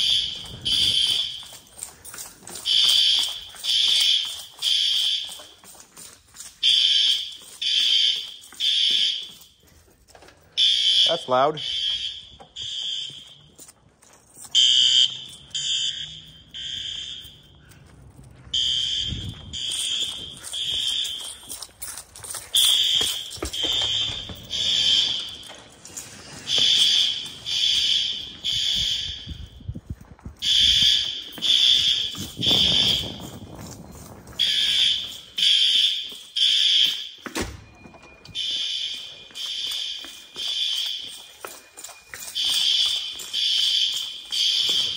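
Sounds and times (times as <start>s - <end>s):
fire alarm horns pulsing: 0.0s - 44.9s.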